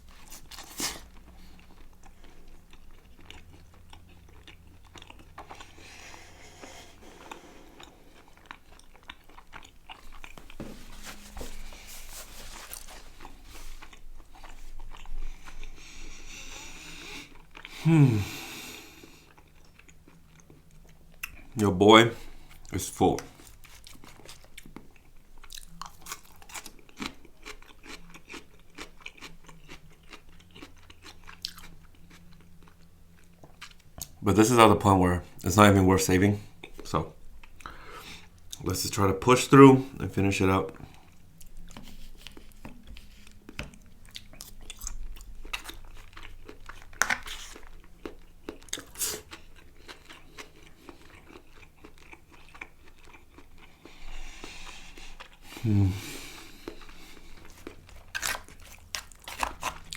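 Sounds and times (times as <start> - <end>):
person chewing food: 0.0 - 21.6, 22.2 - 34.2, 36.4 - 38.7, 40.7 - 59.9.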